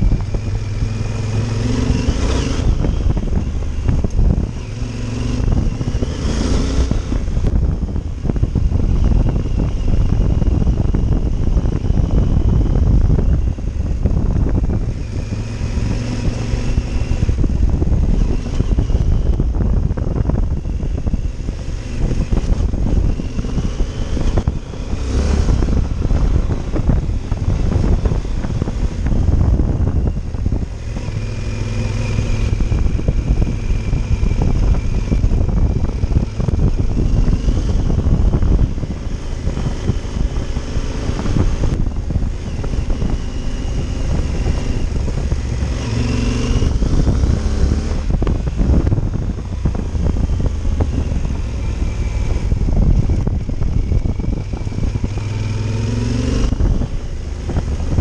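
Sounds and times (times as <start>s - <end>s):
motorcycle engine accelerating: 0.0s - 58.0s
wind and road rumble: 0.0s - 58.0s.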